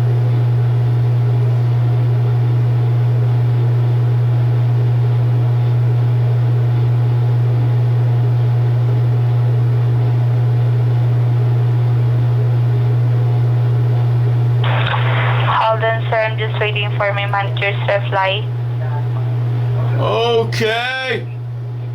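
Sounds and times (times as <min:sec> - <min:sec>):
low hum on phone line: 0:00.0 - 0:21.9.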